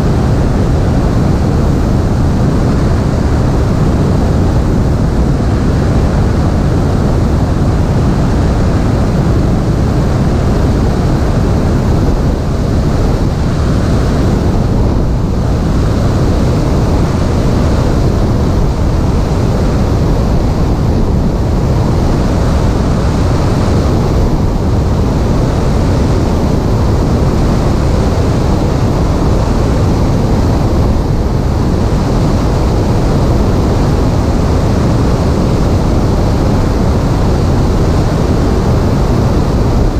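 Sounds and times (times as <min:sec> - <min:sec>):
airflow rush: 0:00.0 - 0:39.9
light aircraft engine: 0:00.0 - 0:39.9.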